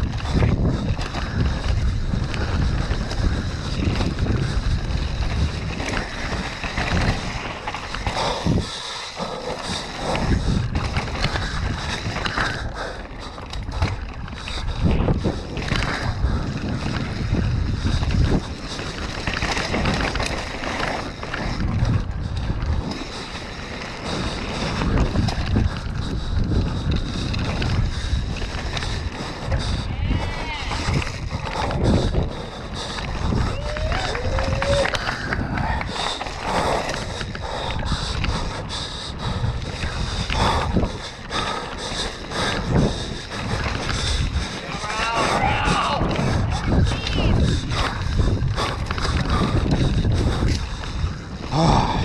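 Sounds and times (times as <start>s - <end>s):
bike tyres and frame rattling: 0.0s - 52.0s
wind rushing over microphone: 0.0s - 52.0s.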